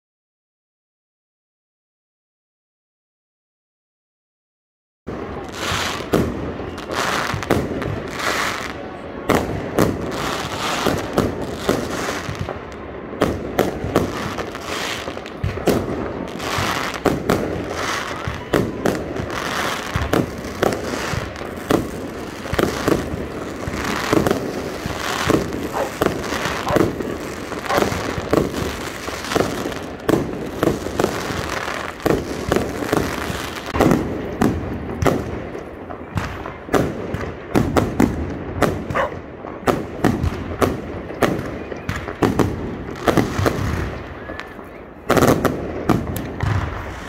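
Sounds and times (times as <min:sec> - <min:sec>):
fireworks bangs: 0:05.1 - 0:47.0.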